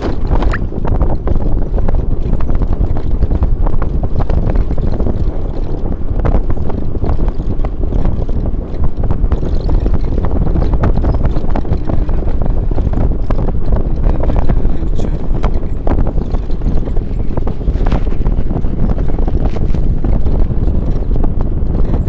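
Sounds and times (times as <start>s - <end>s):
constant low rumble: 0.0s - 22.0s
small knocks and rattles: 0.0s - 22.0s
wind buffeting microphone: 0.0s - 22.0s.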